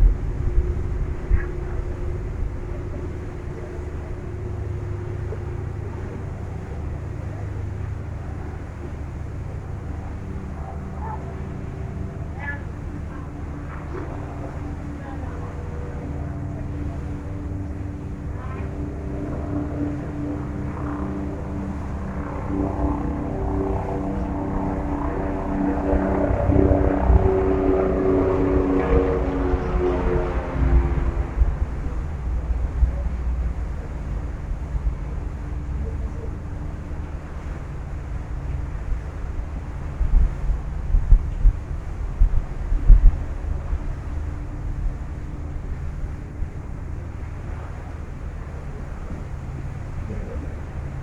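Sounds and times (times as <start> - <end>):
ferry engines rumbling: 0.0 - 51.0
wind and water hiss: 0.0 - 51.0.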